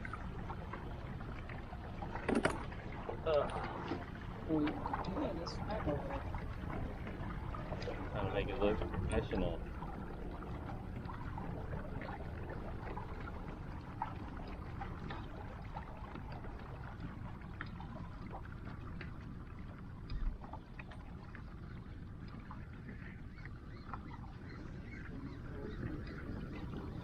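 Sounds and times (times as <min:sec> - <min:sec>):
boat engine low rumble: 0:00.0 - 0:27.0
water splashing against hull: 0:00.0 - 0:27.0.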